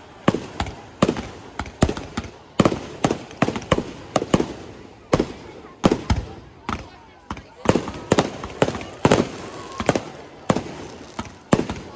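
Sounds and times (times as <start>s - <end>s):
fireworks bangs with echo: 0.0s - 11.9s.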